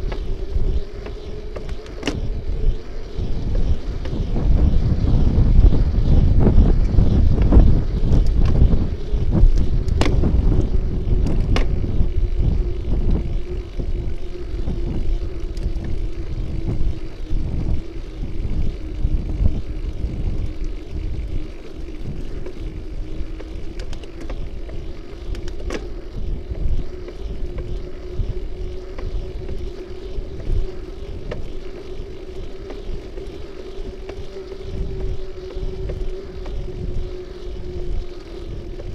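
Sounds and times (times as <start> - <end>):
road rumble: 0.0 - 38.9
steady hum: 0.0 - 38.9
wind buffeting microphone: 0.0 - 38.9.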